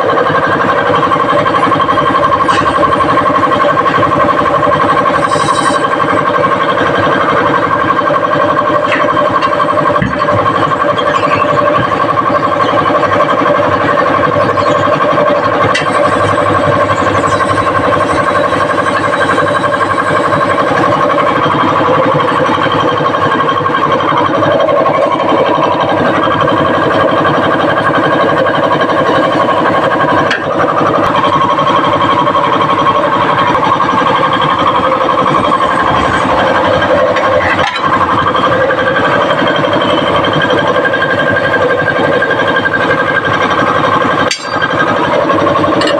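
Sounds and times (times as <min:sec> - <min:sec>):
machinery motor with fast pulsing: 0:00.0 - 0:45.9.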